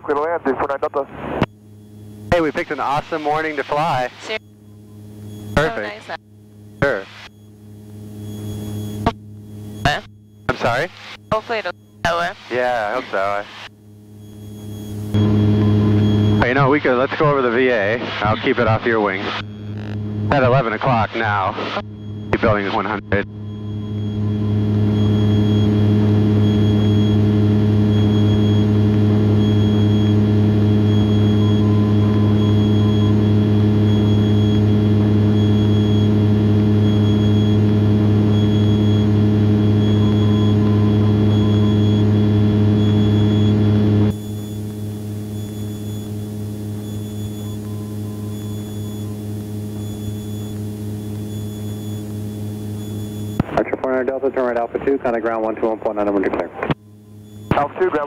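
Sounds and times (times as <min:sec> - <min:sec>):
faint thin whine: 0:00.0 - 0:34.8, 0:38.4 - 0:58.0
aircraft engine and propeller drone: 0:00.0 - 0:58.0.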